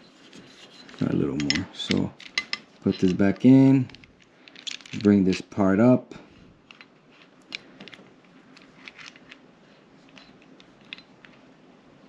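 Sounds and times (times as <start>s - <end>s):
metal parts clicking and scraping: 0.0s - 5.6s, 6.4s - 11.4s.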